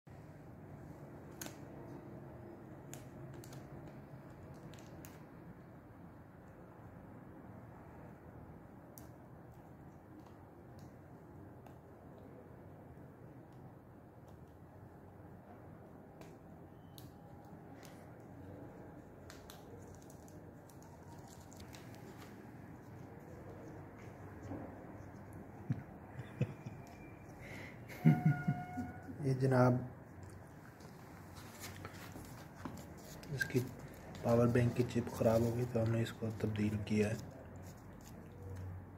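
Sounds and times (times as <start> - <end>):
low room hum: 0.1 - 38.9.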